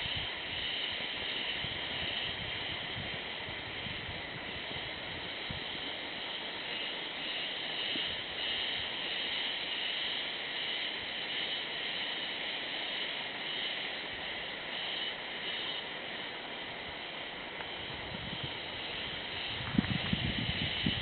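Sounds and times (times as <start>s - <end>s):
cicadas chorus: 0.0s - 21.0s.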